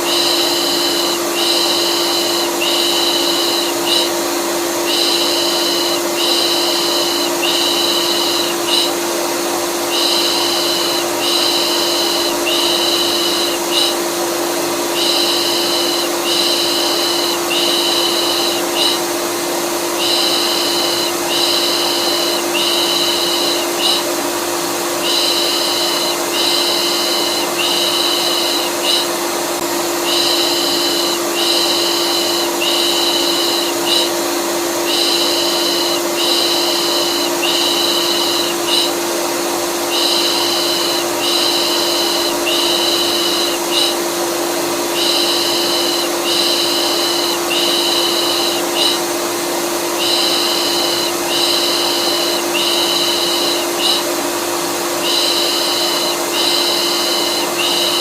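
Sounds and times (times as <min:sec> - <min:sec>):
vacuum cleaner humming: 0:00.0 - 0:58.0.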